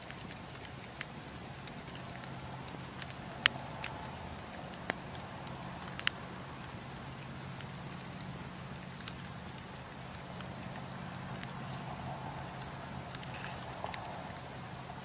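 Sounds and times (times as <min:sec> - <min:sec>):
campfire crackling and popping: 0:00.0 - 0:15.0
steady low hum: 0:00.0 - 0:15.0.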